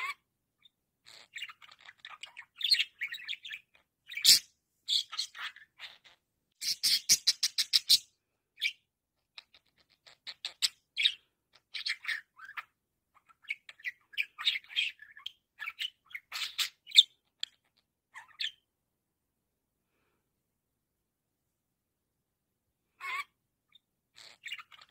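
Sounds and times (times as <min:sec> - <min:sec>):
budgerigar chirping: 0:00.0 - 0:18.6, 0:23.0 - 0:24.9.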